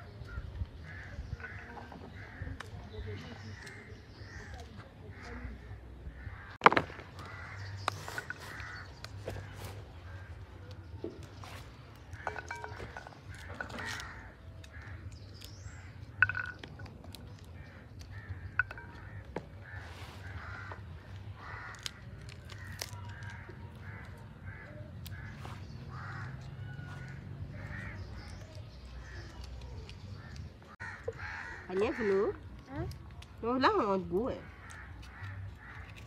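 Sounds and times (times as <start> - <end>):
crows cawing: 0.2 - 11.2, 12.0 - 29.6, 30.2 - 32.6, 33.6 - 36.0.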